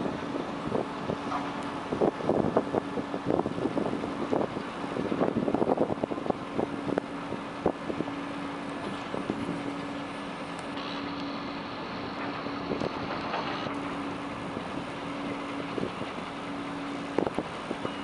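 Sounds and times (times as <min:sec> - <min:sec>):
wind buffeting microphone: 0:00.0 - 0:10.2, 0:11.9 - 0:18.0
machinery hum: 0:00.0 - 0:18.0.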